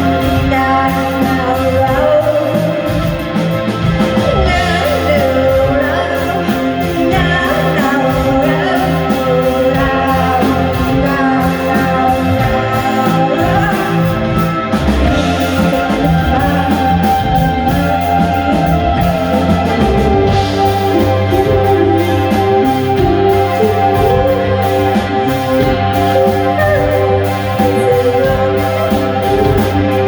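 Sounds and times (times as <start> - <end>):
drums keeping a steady beat: 0.0 - 30.0
electric guitar chords: 0.0 - 30.0.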